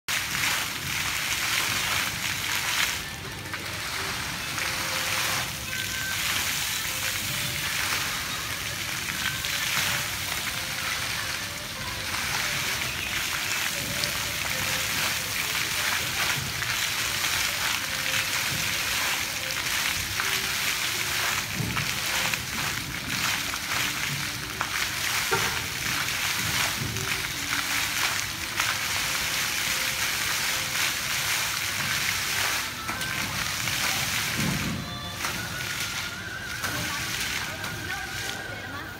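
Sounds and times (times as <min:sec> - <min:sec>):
fountain water splashing: 0:00.1 - 0:38.9.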